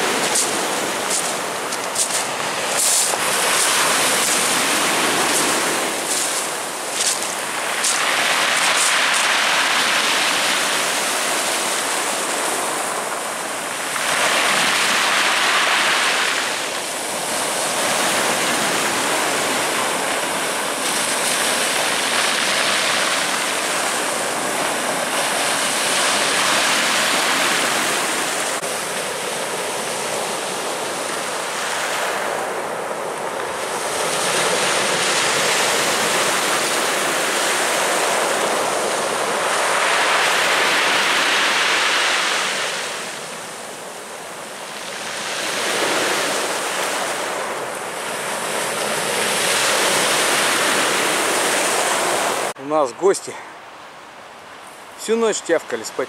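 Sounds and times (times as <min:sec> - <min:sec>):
surf washing onto beach: 0:00.0 - 0:53.8.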